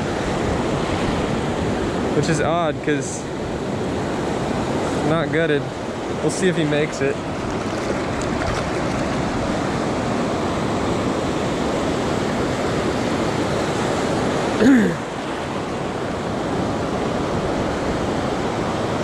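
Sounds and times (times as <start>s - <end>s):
surf washing over sand: 0.0s - 19.0s.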